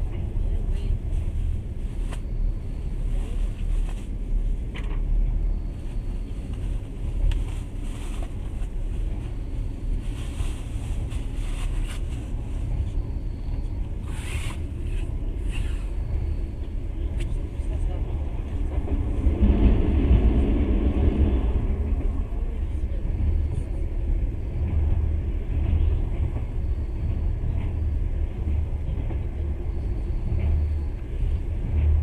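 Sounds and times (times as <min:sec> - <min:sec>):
train clatters: 0:00.0 - 0:32.0
train wheels rumbling on rails: 0:00.0 - 0:32.0.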